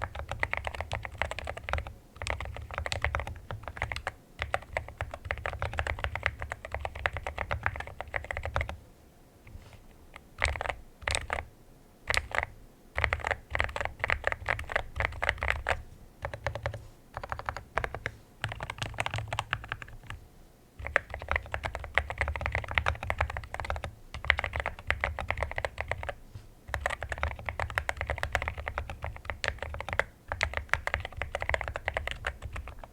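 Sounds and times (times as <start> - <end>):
mechanical keyboard typing: 0.0 - 8.8, 10.2 - 11.5, 12.1 - 20.2, 20.8 - 32.9.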